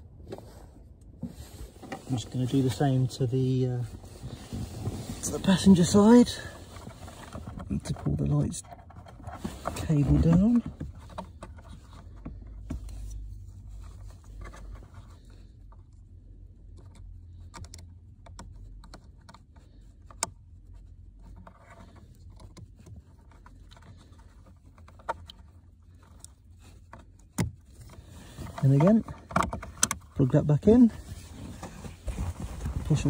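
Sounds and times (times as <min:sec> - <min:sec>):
plastic and cable rubbing: 0:01.2 - 0:33.0.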